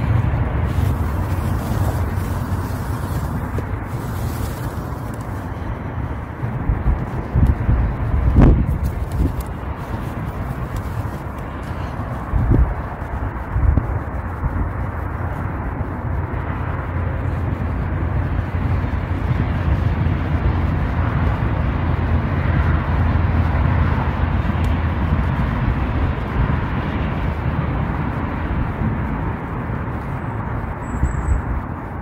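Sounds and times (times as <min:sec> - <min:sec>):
outdoor rumble with hiss: 0:00.0 - 0:32.0.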